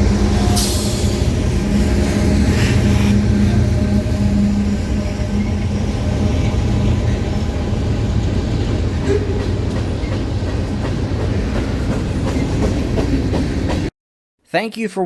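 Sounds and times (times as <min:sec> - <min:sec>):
diesel locomotive rumble: 0:00.0 - 0:13.8.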